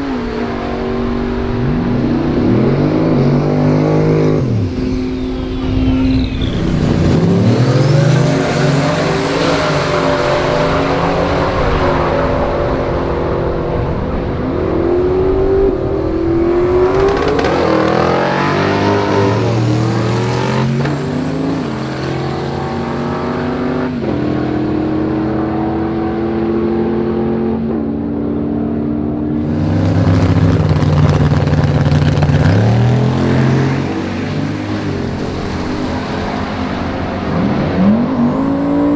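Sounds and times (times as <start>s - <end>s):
race car engines revving: 0.0s - 27.3s, 29.3s - 38.9s.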